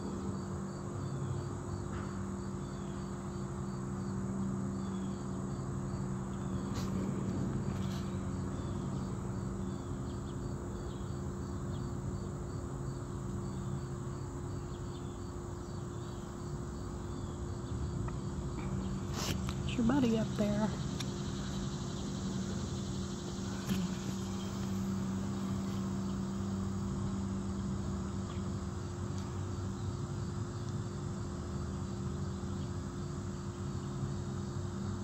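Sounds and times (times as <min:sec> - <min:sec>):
insects chirping: 0:00.0 - 0:35.0
low steady hum: 0:00.0 - 0:35.0.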